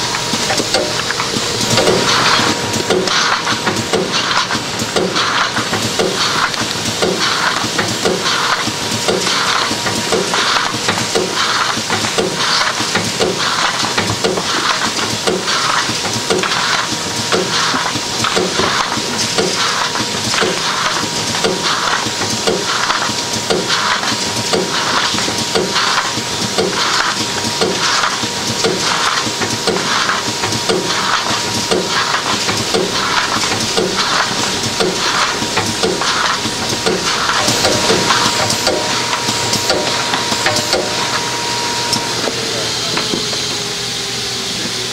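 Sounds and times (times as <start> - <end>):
machine whine: 0.0 - 44.9.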